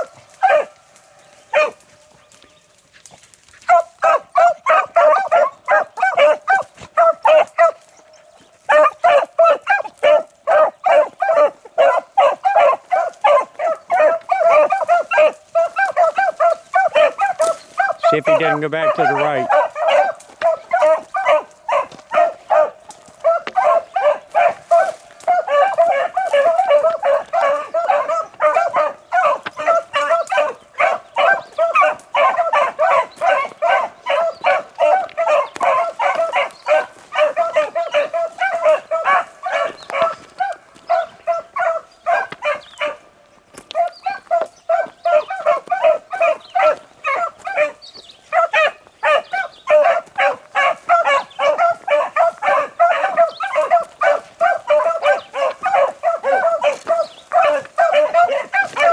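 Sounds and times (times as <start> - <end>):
hounds baying: 0.0 - 58.9.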